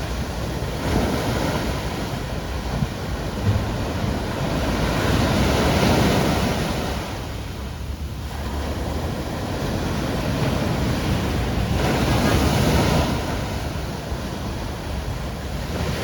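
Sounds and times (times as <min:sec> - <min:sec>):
ocean waves breaking on shore: 0:00.0 - 0:16.0
wind buffeting microphone: 0:00.0 - 0:16.0.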